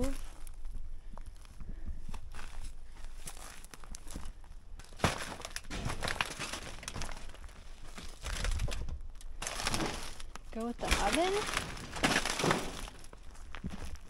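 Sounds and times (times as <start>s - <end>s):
footsteps crunching on debris: 0.0s - 14.0s.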